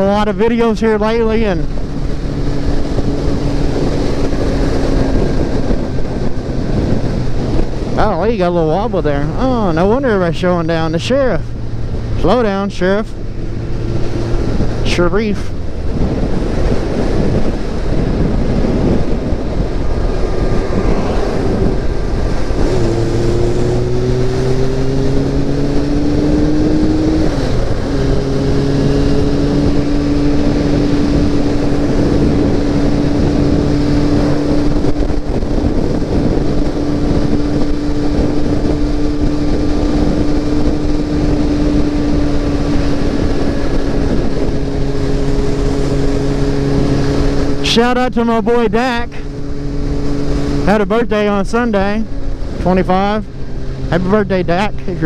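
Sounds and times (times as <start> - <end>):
motorcycle engine: 0.0 - 55.0
wind noise on microphone: 0.0 - 55.0.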